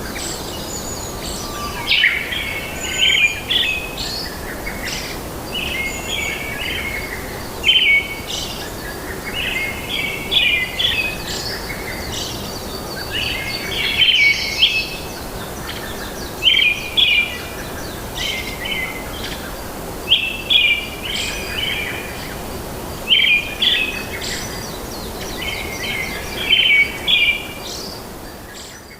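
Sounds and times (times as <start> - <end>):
background hiss: 0.0 - 28.9
songbird chirping: 0.0 - 28.9.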